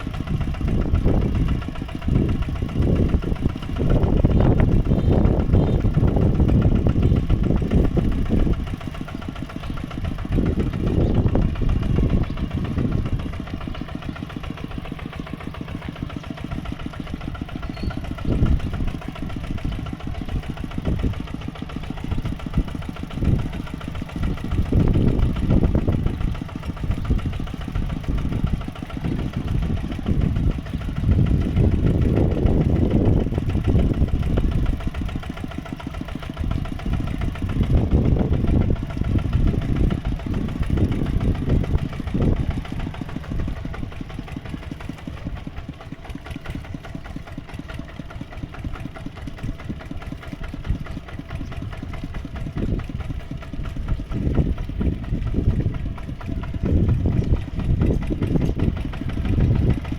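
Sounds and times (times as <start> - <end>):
tractor engine chugging: 0.0 - 59.9.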